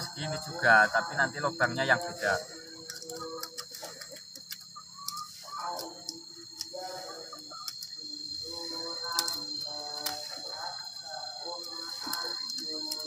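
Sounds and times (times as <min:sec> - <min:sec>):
high insect whine: 0:00.0 - 0:13.0.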